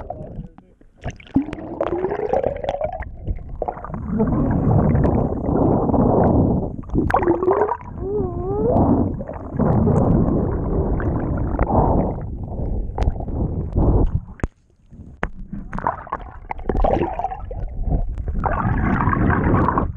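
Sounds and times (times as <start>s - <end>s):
water gurgling and rushing: 0.0s - 19.9s.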